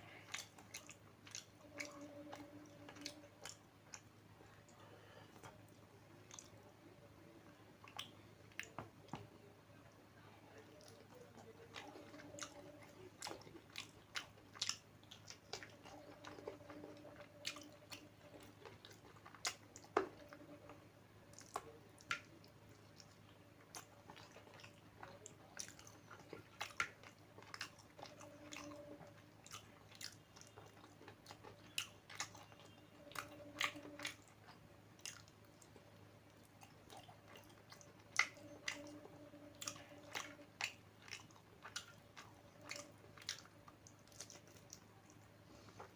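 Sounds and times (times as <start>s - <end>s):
food crunching: 0.0s - 6.7s, 7.4s - 9.3s, 10.5s - 45.9s
person chewing food: 0.0s - 9.5s, 10.5s - 45.9s.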